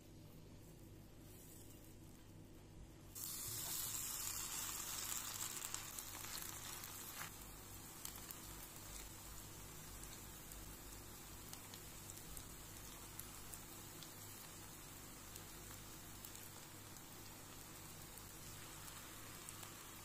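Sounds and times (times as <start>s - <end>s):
food sizzling in hot oil: 3.2s - 20.0s.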